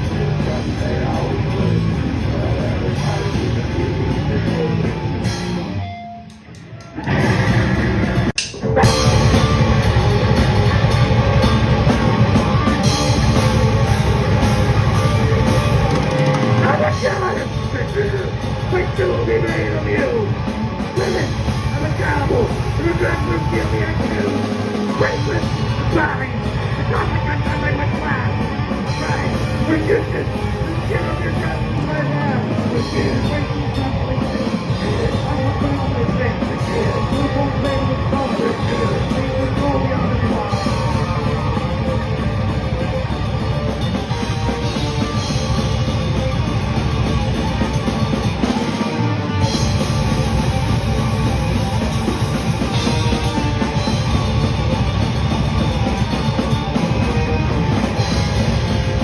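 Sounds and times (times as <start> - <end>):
heavy rock music: 0.0 - 59.0.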